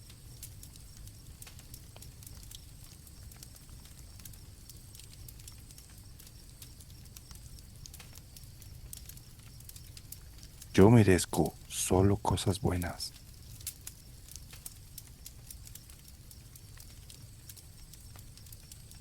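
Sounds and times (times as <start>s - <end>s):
campfire crackling: 0.0s - 19.0s
crickets chirping: 0.0s - 19.0s.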